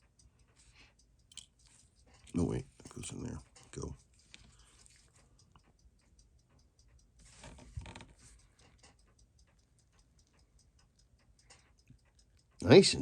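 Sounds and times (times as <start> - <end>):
metal tools clicking on watch parts: 0.0 - 7.4, 8.2 - 13.0.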